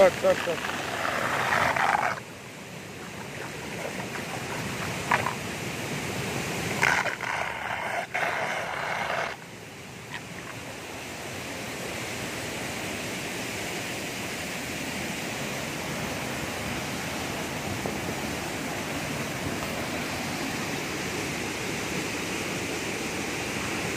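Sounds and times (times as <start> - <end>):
waterfall rushing into pool: 0.0 - 23.9.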